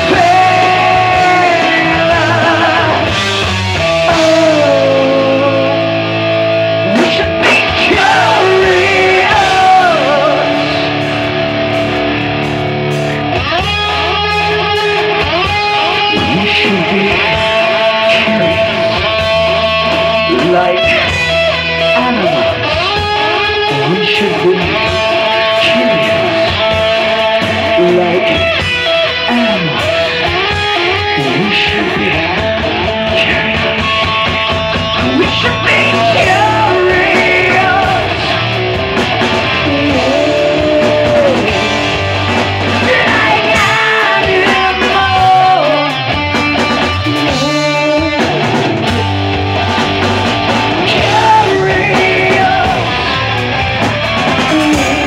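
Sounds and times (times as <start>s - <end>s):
person singing: 0.0s - 6.1s, 6.8s - 11.1s, 13.6s - 21.2s, 21.9s - 28.6s, 29.2s - 34.4s, 35.0s - 48.9s, 50.8s - 55.0s
rock music with electric guitar: 0.0s - 55.0s.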